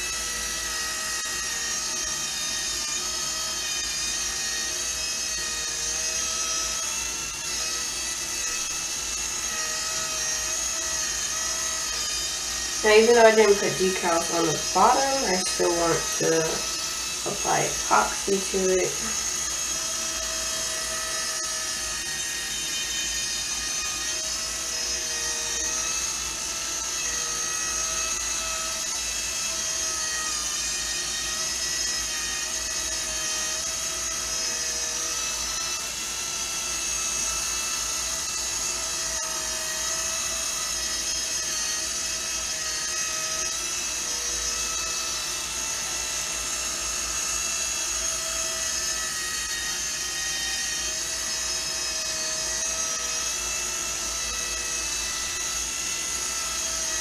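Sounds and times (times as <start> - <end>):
small electric motor whining: 0.0 - 57.0.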